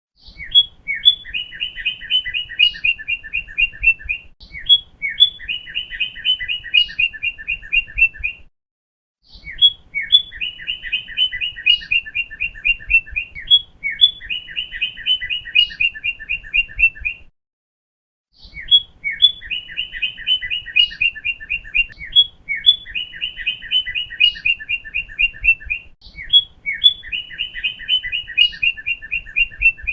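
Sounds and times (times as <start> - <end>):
bird singing whistled phrases: 0.2 - 8.4, 9.3 - 17.2, 18.4 - 29.9.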